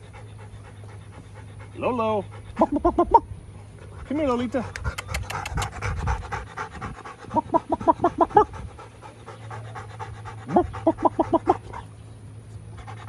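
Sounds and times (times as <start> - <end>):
dog panting rapidly: 0.0 - 12.0, 12.6 - 13.0.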